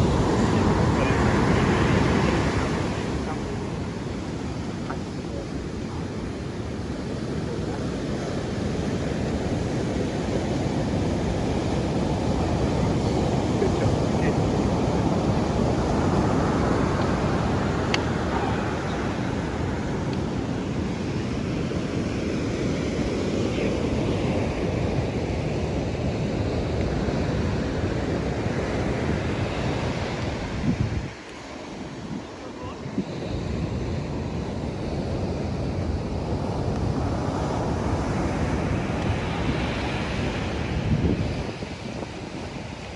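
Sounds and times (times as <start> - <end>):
ocean surf: 0.0 - 42.9
wind buffeting microphone: 0.0 - 42.9.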